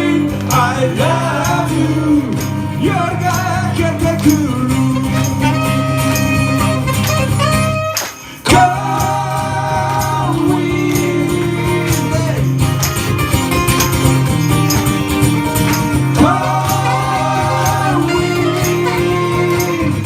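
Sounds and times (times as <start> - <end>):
live rock band with singing: 0.0 - 20.0.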